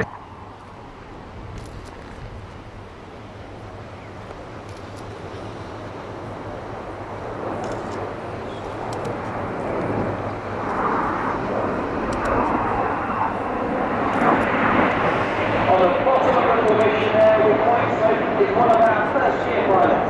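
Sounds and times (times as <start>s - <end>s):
jet aircraft roar: 0.0s - 20.0s.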